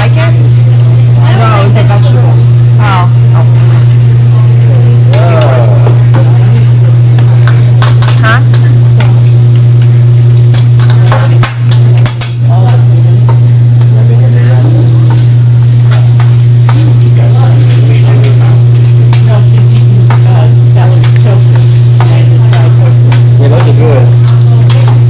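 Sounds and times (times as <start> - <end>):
food sizzling on a griddle: 0.0 - 25.0
loud steady low hum: 0.0 - 25.0.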